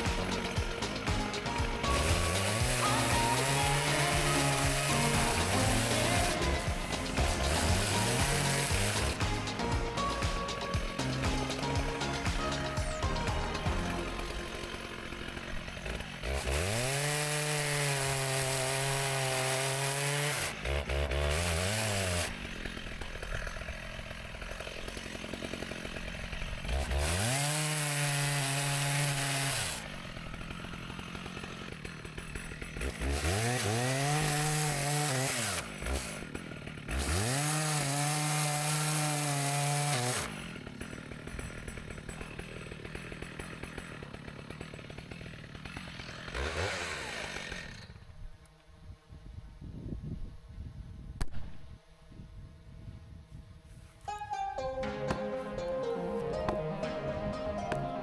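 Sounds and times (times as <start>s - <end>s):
chainsaw revving: 0.0s - 48.8s.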